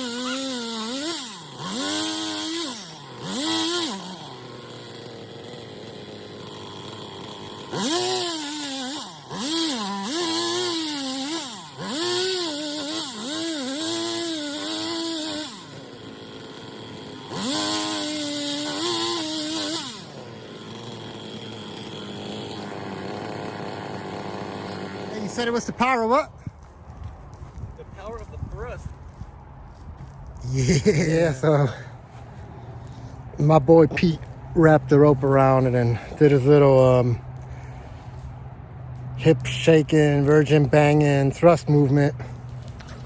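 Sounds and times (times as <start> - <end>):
chainsaw engine revving: 0.0 - 26.2, 30.6 - 43.0.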